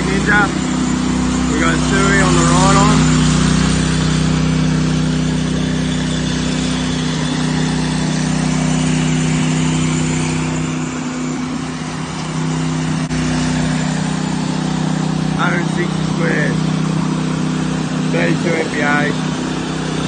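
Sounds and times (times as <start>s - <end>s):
power trowel engine humming: 0.0s - 20.0s.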